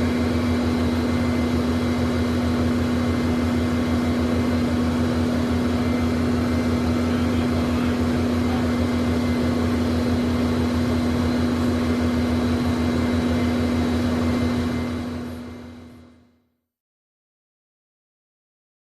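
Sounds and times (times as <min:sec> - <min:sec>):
jet engines idling: 0:00.0 - 0:16.2.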